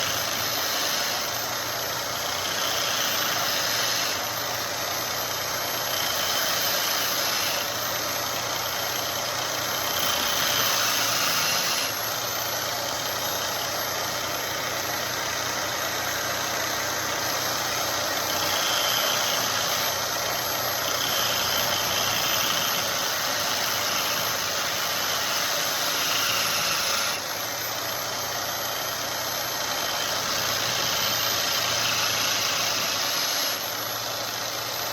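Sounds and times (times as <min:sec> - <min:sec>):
belt grinder motor whining: 0:00.0 - 0:34.9.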